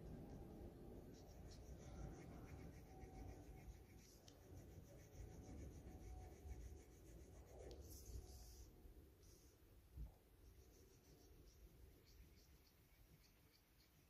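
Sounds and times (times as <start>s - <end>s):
pencil scratching on paper: 0.0s - 9.5s, 10.4s - 14.0s.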